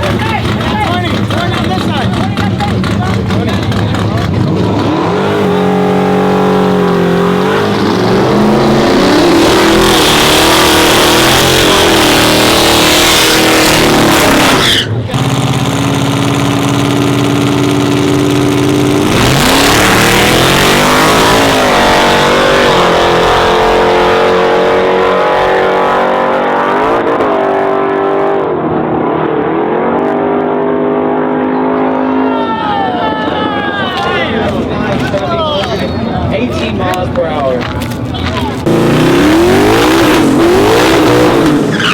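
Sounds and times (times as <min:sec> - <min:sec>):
race truck engines revving: 0:00.0 - 0:41.9.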